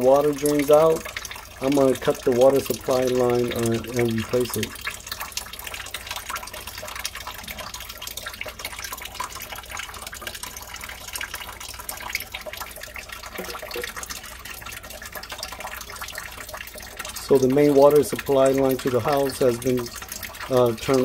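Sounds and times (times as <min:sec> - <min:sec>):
water dripping into foil pan: 0:00.0 - 0:21.0.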